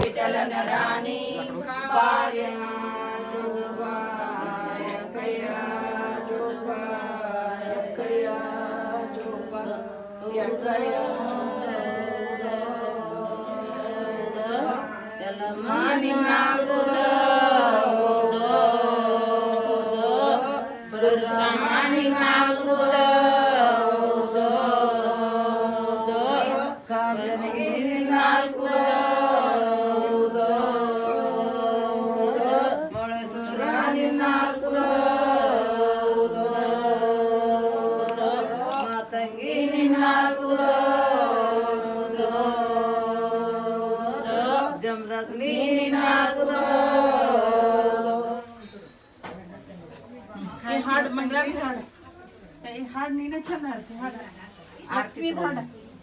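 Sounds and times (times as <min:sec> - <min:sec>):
women chanting in unison: 0:00.0 - 0:48.9.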